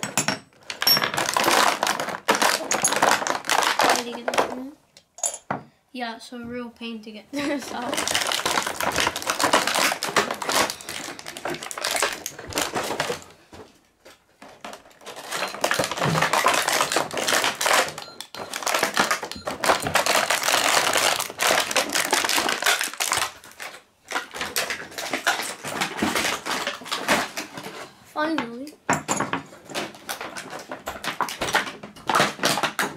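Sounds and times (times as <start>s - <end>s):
plastic packaging crackling: 1.0s - 4.7s, 7.4s - 13.4s, 14.0s - 27.8s, 29.5s - 32.9s.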